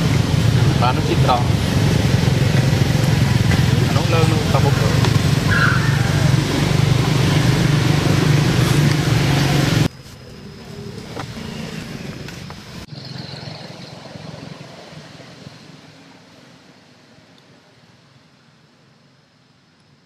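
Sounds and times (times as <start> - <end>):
vehicle engine running: 0.0 - 16.6.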